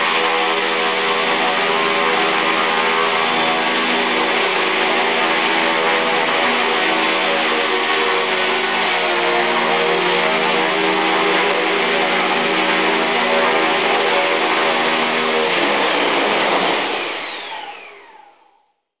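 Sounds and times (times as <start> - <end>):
rc helicopter motor and rotor: 0.0 - 18.7.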